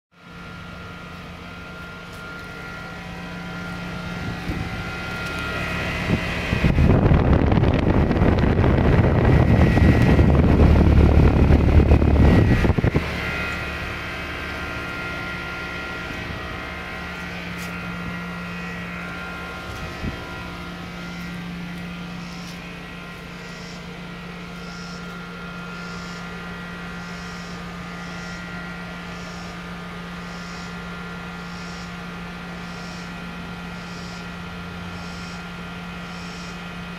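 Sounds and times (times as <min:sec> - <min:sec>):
air conditioner unit humming: 0:00.2 - 0:36.9.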